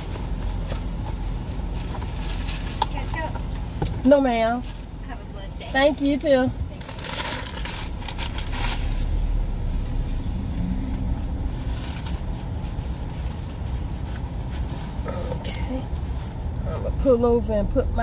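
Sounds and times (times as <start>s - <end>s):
car engine rumble: 0.0s - 18.0s.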